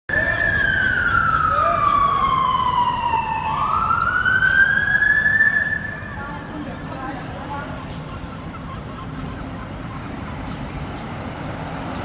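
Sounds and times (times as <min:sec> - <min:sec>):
police siren wailing: 0:00.1 - 0:10.6.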